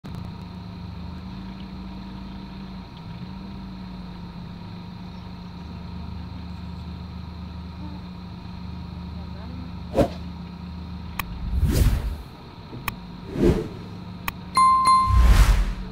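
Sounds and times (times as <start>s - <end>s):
diesel engine droning: 0.1s - 15.9s.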